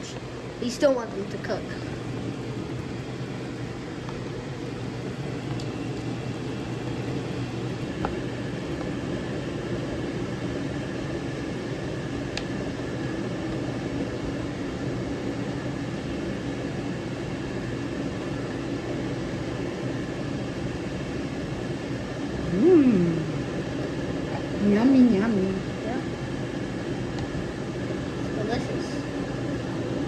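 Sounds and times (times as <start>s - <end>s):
whirring hum: 0.0s - 30.0s.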